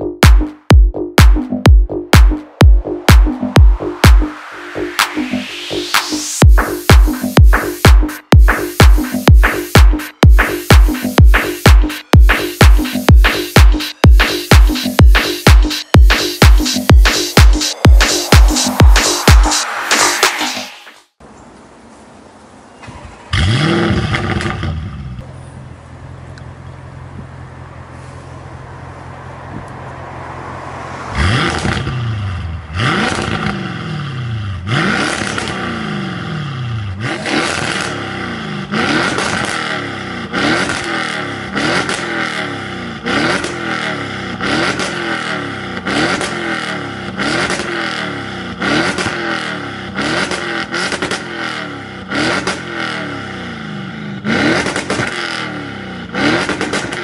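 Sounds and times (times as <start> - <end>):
car engine revving: 0.0 - 21.2, 23.0 - 25.4, 26.9 - 57.0.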